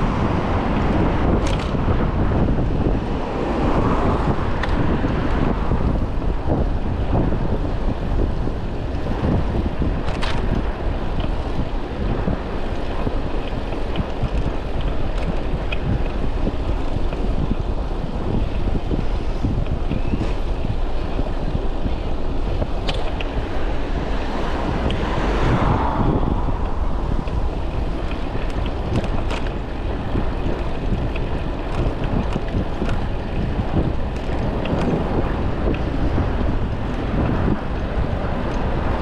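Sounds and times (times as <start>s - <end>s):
city traffic rumble: 0.0s - 39.0s
wind buffeting microphone: 0.0s - 39.0s.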